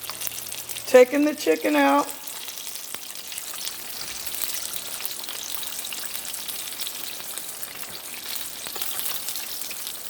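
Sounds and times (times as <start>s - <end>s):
chicken frying in hot oil: 0.0s - 10.0s.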